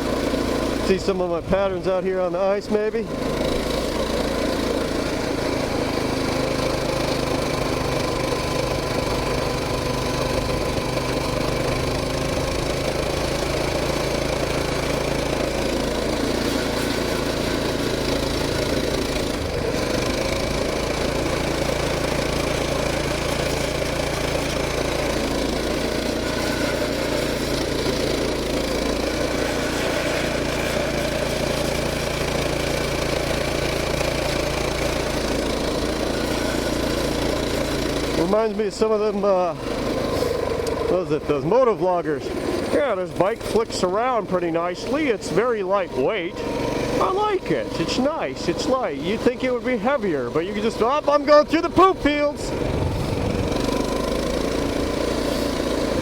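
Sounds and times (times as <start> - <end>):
mini bike engine running steadily: 0.0 - 56.0.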